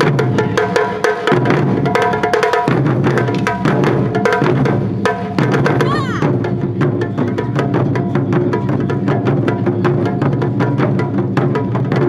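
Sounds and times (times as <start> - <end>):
taiko drums playing fast rhythm: 0.0 - 12.0.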